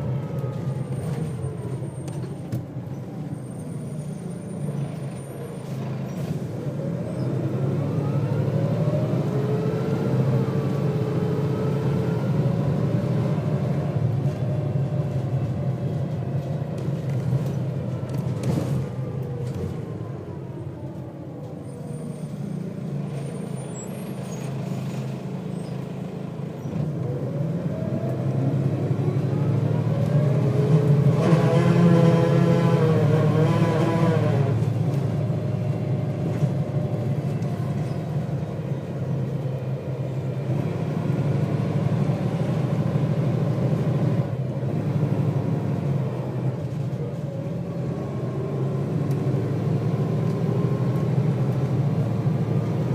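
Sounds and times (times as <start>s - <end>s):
bus engine accelerating: 0.0s - 52.9s.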